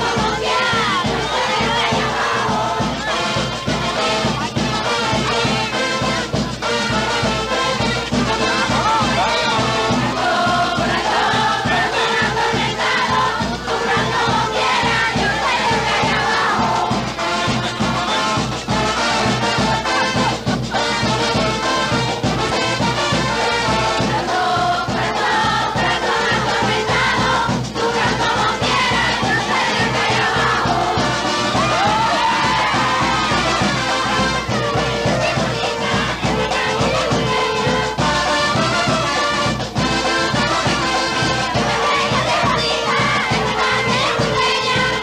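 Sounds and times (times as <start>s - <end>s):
brass band playing: 0.0s - 45.0s
chorus of voices singing: 0.0s - 45.0s
steady drum beat: 0.0s - 45.0s.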